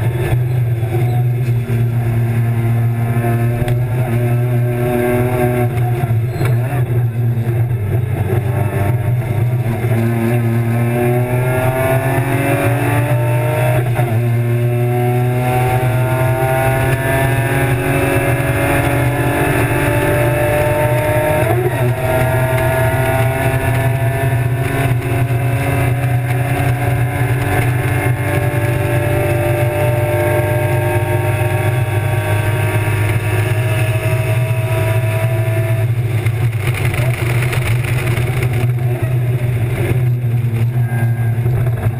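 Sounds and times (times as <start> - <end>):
race car engine at full throttle: 0.0 - 41.9.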